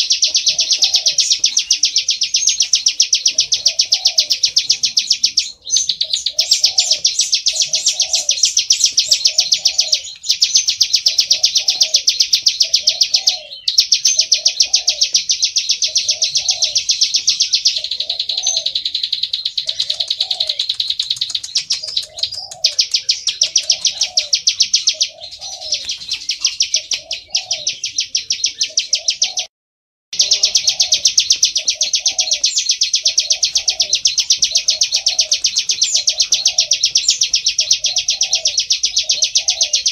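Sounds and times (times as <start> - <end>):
bird trilling: 0.0 - 29.5, 30.2 - 39.9.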